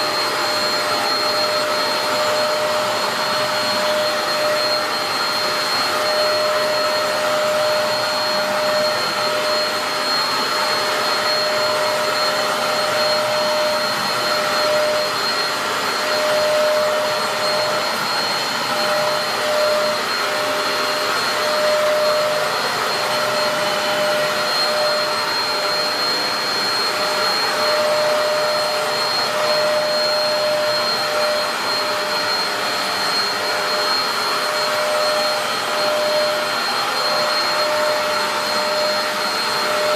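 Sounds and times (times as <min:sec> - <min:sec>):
high whistling tones: 0:00.0 - 0:39.9
vacuum cleaner running: 0:00.0 - 0:39.9.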